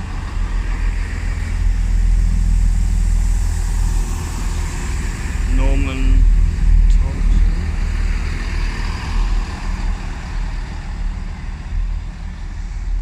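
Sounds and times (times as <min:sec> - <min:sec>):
train diesel engines rumbling: 0:00.0 - 0:13.0.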